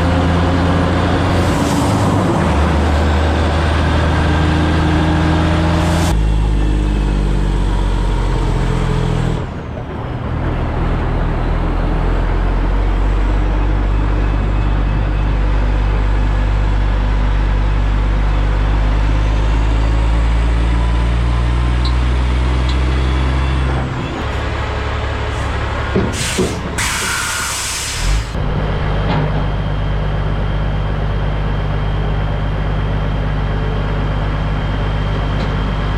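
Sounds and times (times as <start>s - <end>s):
diesel truck engine: 0.0s - 35.9s.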